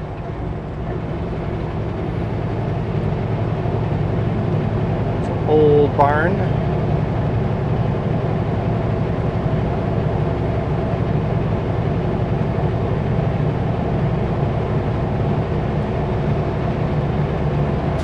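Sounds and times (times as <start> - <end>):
diesel truck engine drone: 0.0 - 18.0
road noise: 0.0 - 18.0.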